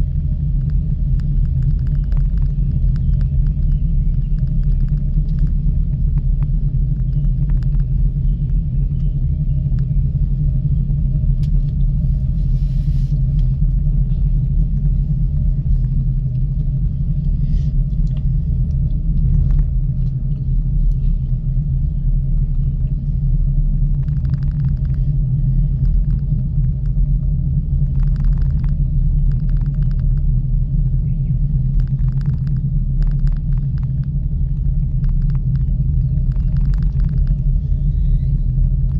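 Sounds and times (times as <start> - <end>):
gondola rumble and hum: 0.0 - 38.9.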